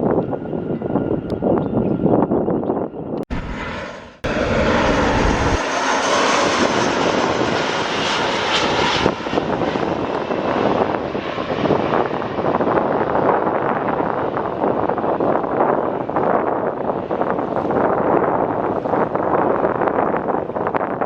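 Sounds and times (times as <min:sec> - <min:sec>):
jet engine roar: 0:03.2 - 0:20.8.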